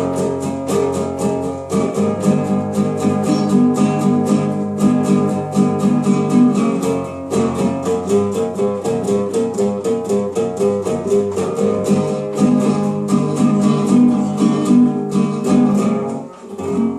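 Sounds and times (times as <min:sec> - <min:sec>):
small guitar strummed: 0:00.0 - 0:16.9.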